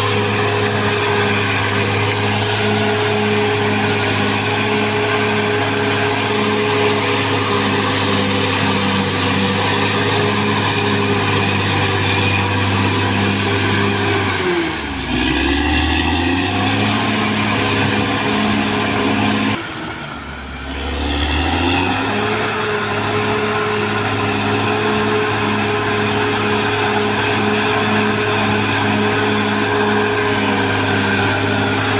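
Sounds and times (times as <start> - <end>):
bulldozer diesel engine running: 0.0 - 31.9.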